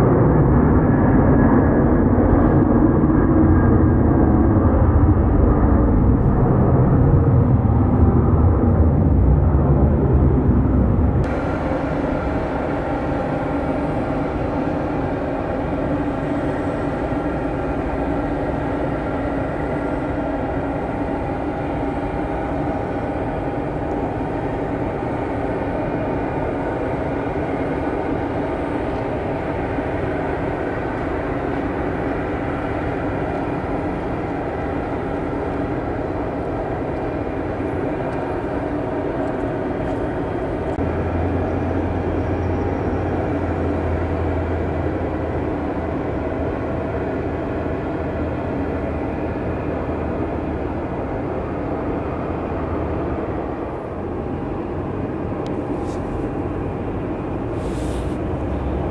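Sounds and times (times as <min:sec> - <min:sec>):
jet airliner whine and rumble: 0:00.0 - 0:58.9
low hum: 0:00.0 - 0:58.9.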